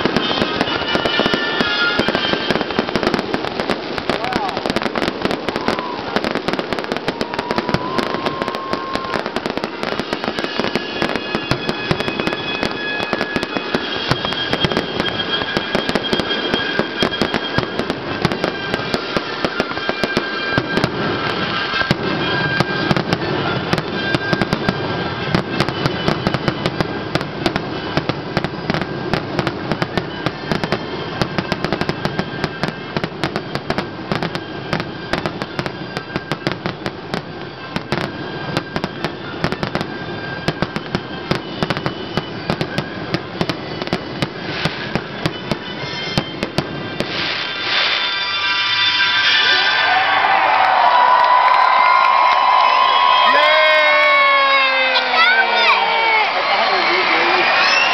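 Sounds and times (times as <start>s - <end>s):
fireworks bursting and crackling: 0.0s - 57.9s.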